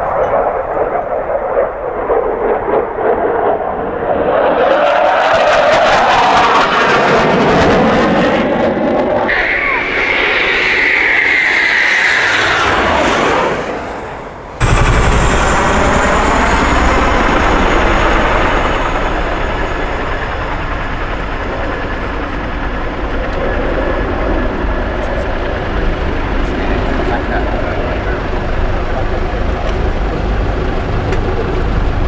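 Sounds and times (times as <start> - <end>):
aircraft engine rumbling roar: 0.0 - 32.0
jet aircraft passing: 0.0 - 32.0.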